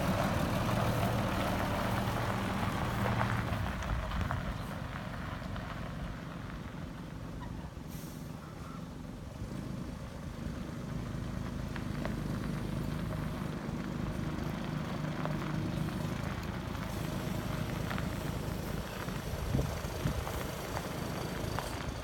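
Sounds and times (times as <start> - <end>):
truck diesel engine idling: 0.0 - 9.4, 10.1 - 22.0.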